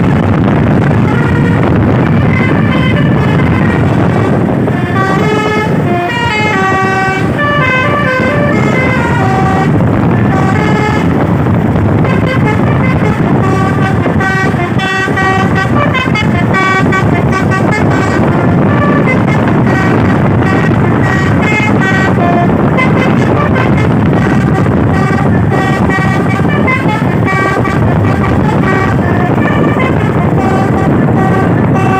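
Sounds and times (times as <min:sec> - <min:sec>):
multi-note truck horn melody: 0:00.0 - 0:31.9
road noise: 0:00.0 - 0:31.9
truck engine rumble: 0:00.0 - 0:31.9.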